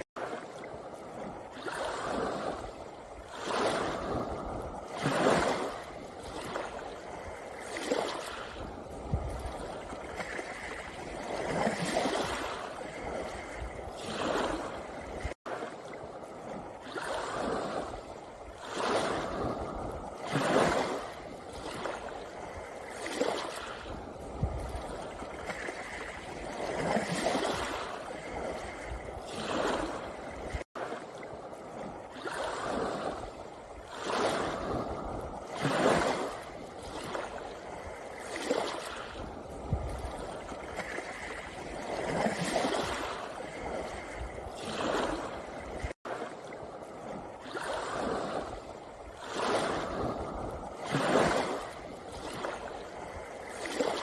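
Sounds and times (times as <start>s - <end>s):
waves washing onto pebble beach: 0.0s - 54.0s.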